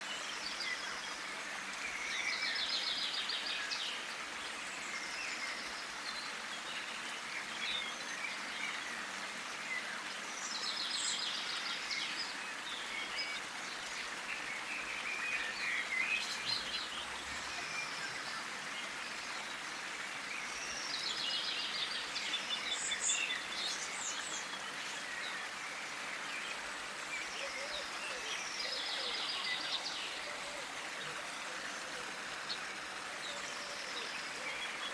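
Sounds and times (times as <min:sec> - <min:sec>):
songbird singing: 0:00.0 - 0:34.9
steady outdoor hiss: 0:00.0 - 0:34.9.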